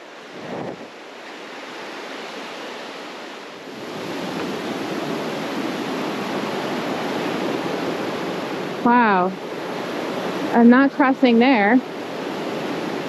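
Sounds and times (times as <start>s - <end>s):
river rushing over boulders: 0.0s - 13.0s.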